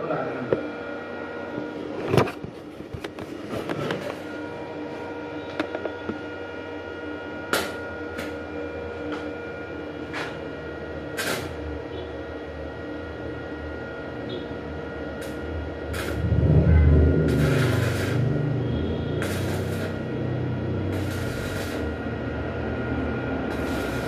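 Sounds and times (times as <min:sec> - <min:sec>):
electrical machine hum: 0:00.0 - 0:24.0.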